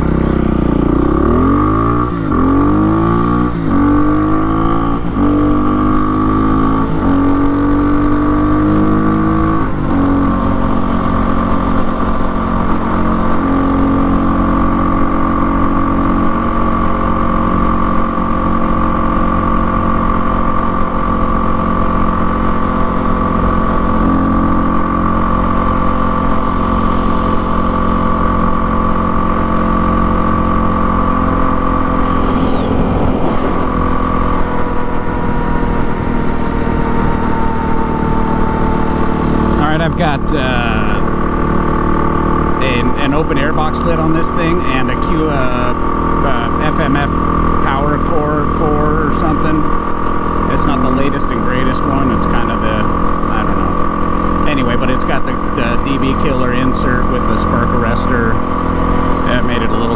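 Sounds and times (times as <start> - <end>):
dirt bike accelerating: 0.0 - 59.9.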